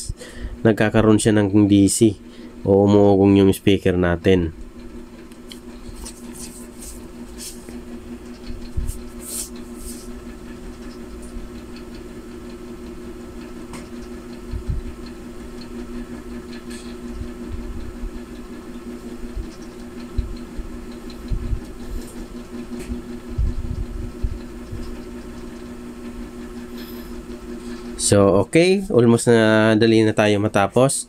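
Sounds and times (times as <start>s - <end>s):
low fan hum: 0.0s - 31.0s.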